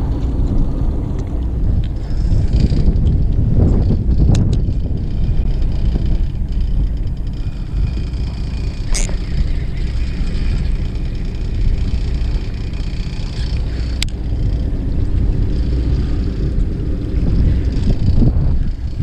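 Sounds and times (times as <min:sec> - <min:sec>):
low rumble: 0:00.0 - 0:19.0
wind buffeting microphone: 0:00.0 - 0:19.0.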